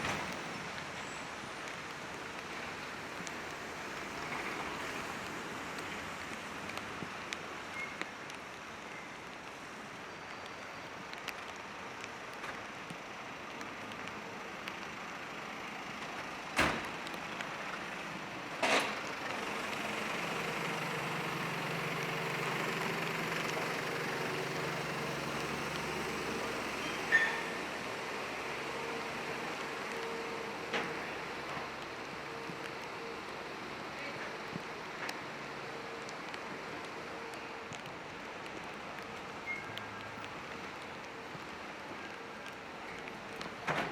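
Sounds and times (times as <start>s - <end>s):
rain and traffic hiss: 0.0s - 43.9s.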